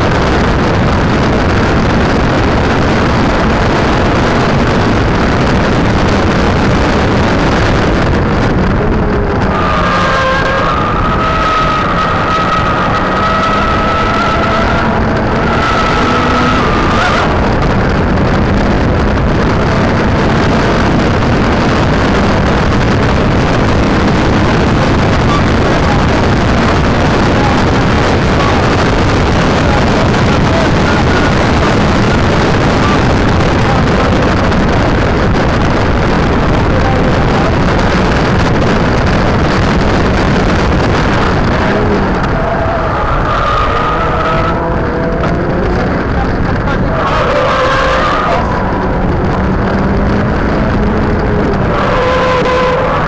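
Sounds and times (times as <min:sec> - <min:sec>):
car engine accelerating: 0:00.0 - 0:53.0
wind and road noise: 0:00.0 - 0:53.0.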